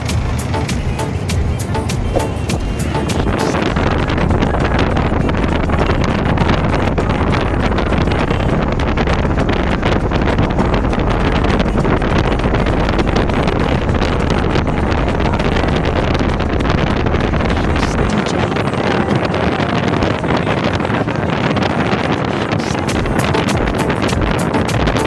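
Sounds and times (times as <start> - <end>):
truck rumbling: 0.0 - 25.0
wind buffeting microphone: 0.0 - 25.0.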